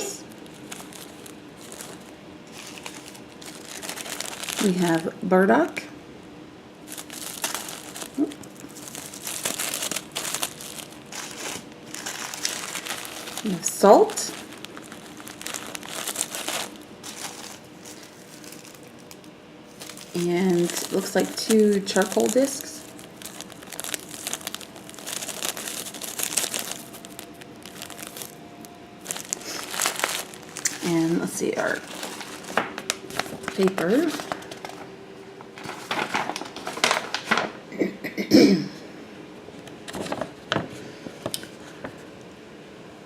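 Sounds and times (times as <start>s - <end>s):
packaging crinkling: 0.0s - 5.2s, 6.8s - 37.6s.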